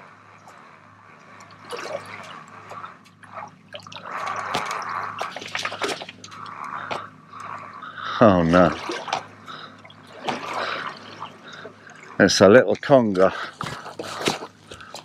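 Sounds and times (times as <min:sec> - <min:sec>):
low steady hum: 0:00.0 - 0:15.0
water drips: 0:00.4 - 0:13.9
water lapping against boat: 0:00.4 - 0:15.0.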